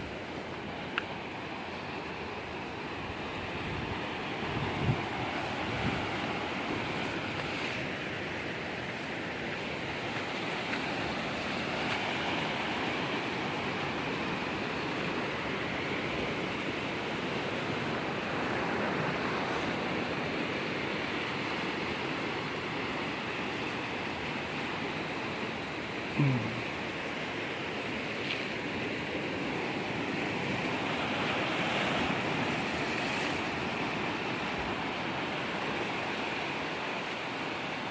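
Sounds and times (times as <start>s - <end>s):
rushing water: 0.0s - 37.9s.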